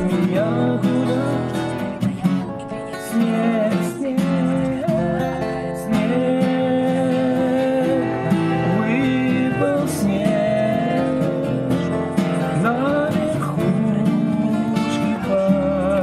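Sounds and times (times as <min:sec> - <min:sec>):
acoustic guitars strummed: 0:00.0 - 0:16.0
bass guitar line: 0:00.0 - 0:16.0.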